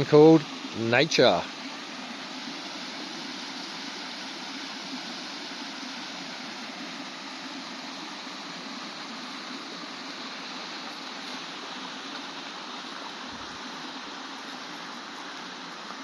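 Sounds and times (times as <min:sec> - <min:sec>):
flowing stream rushing: 0:00.0 - 0:16.0.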